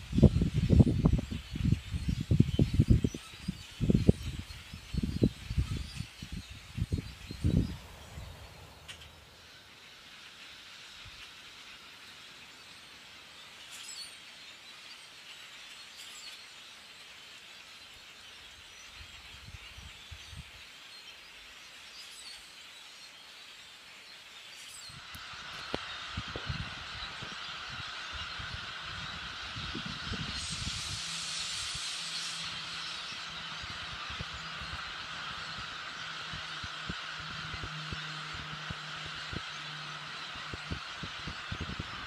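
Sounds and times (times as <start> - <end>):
flock of birds chattering: 0.0 - 42.0.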